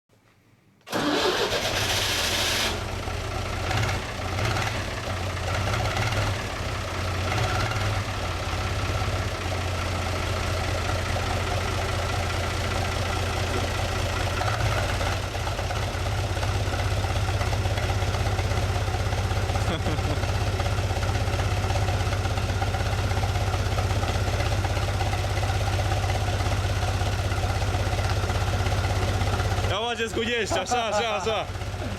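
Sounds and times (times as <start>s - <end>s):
tractor diesel engine starting: 0.9s - 31.9s.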